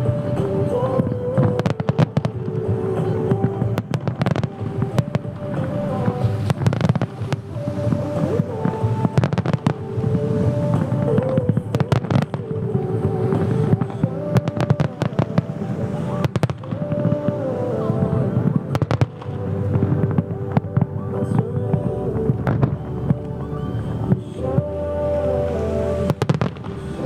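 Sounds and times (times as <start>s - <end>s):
fireworks bangs and crackles: 0.0s - 24.7s, 25.4s - 27.0s
music with long held notes: 0.0s - 27.0s.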